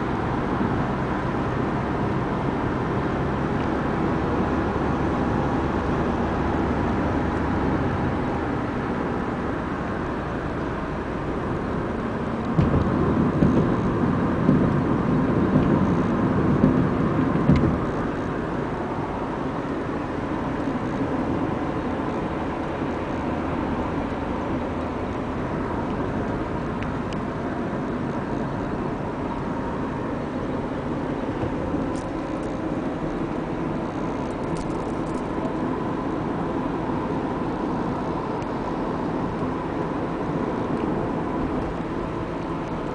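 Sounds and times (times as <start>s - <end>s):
road and engine noise inside car: 0.0s - 42.9s.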